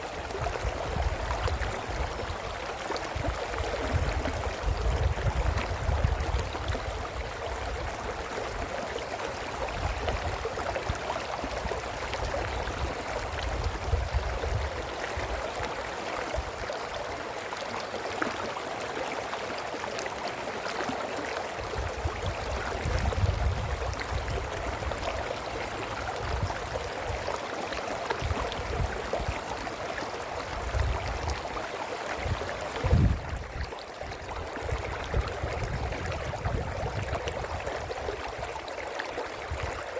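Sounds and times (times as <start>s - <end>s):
brook babbling: 0.0s - 39.9s.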